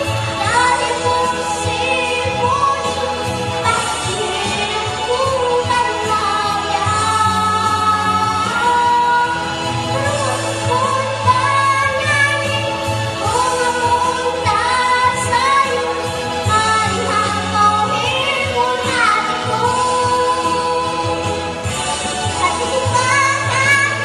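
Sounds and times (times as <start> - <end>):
girl singing into a microphone: 0.0 - 21.5, 22.2 - 24.0
instrumental accompaniment: 0.0 - 24.0.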